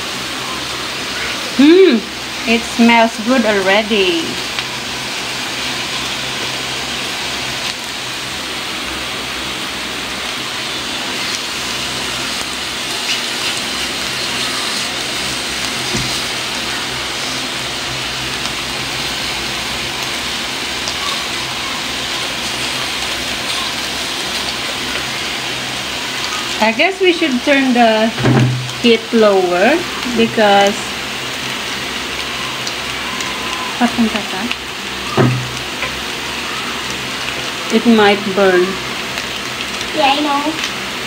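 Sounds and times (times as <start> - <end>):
pork sizzling on grill: 0.0 - 41.0.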